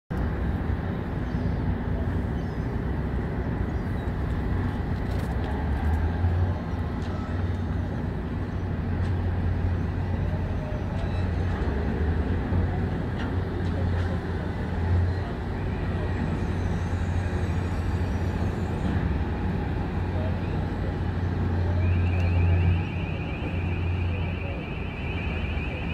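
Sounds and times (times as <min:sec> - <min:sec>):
diesel trucks and machinery rumbling: 0:00.1 - 0:25.9.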